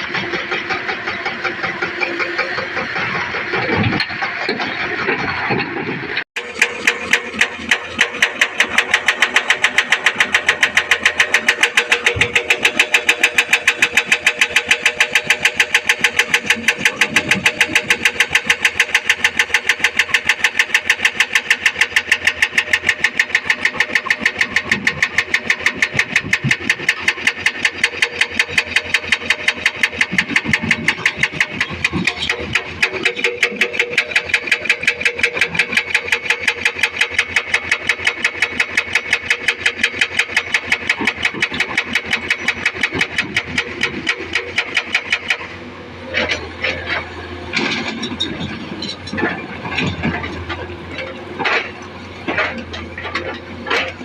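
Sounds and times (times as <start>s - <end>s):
heavy diesel engine clattering: 0.0s - 54.0s.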